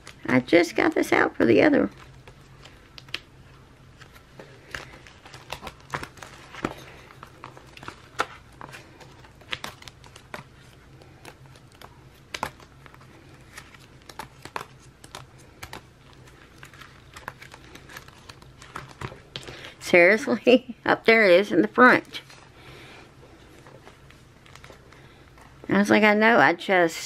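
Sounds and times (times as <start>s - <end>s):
paper crinkling and rustling: 0.0s - 19.8s, 22.1s - 25.7s.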